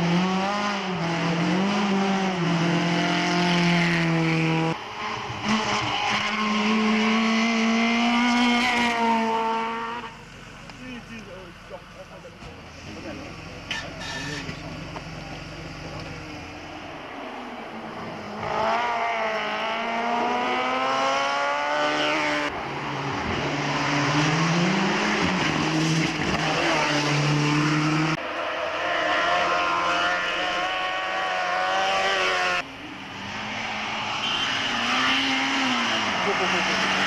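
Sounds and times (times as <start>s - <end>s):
race car engines revving past: 0.0s - 37.0s.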